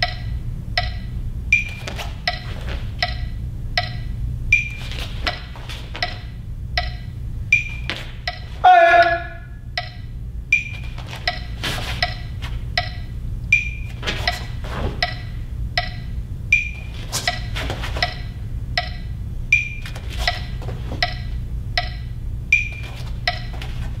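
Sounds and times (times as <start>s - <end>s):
wood block percussion clicks: 0.0s - 23.6s
steady low hum: 0.0s - 24.0s.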